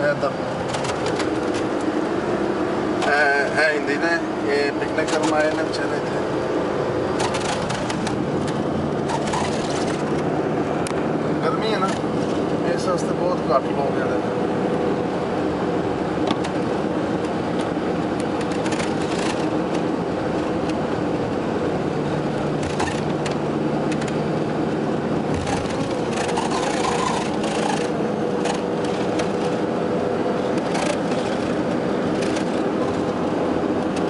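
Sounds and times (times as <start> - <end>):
car engine and tyre noise: 0.0 - 34.0.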